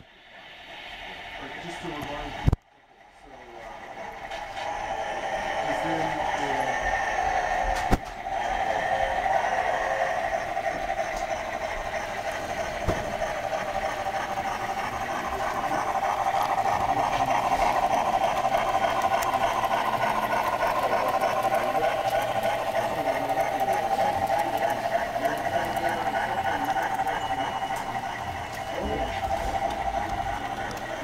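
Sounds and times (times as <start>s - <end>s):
model train motor hum: 0.4s - 2.6s, 3.2s - 31.0s.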